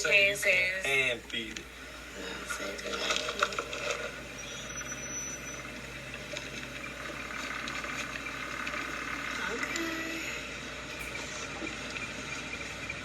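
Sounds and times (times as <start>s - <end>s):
faint indistinct sounds: 0.0s - 13.0s.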